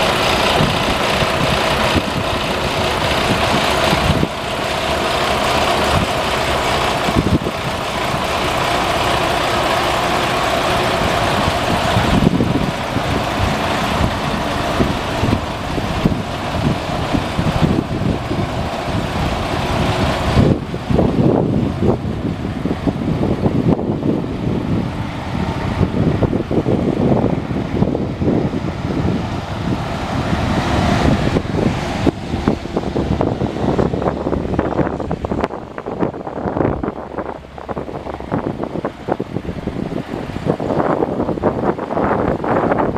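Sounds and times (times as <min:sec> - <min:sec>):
diesel truck idling: 0:00.0 - 0:42.9.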